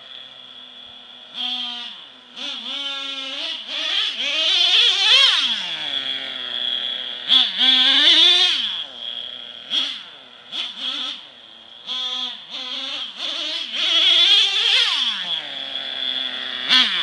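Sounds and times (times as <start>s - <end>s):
small engine revving: 0.0s - 17.0s
steady high whine: 0.0s - 17.0s.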